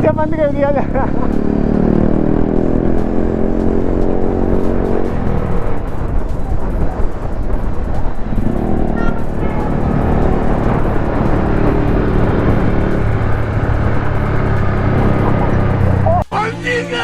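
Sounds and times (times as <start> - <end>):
motorcycle engine running: 0.0 - 16.2
background music: 0.0 - 17.0.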